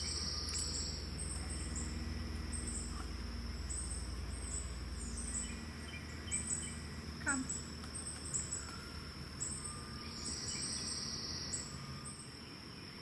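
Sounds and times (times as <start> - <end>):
insects chirping: 0.0 - 13.0
steady high hiss: 0.0 - 13.0.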